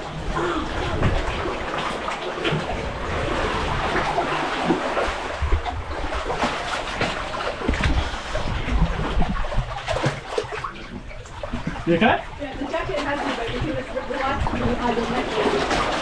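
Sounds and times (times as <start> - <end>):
waves splashing around swimmers: 0.0 - 16.0.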